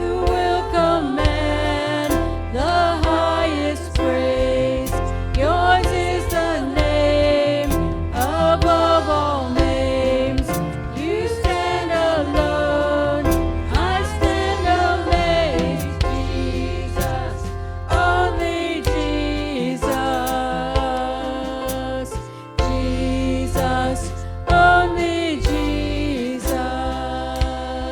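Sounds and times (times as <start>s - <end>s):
music with singing: 0.0s - 27.9s.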